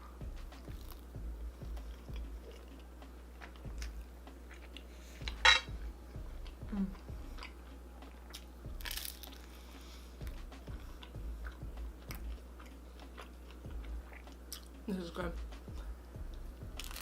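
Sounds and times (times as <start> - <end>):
person chewing food: 0.0 - 14.8, 15.7 - 17.0.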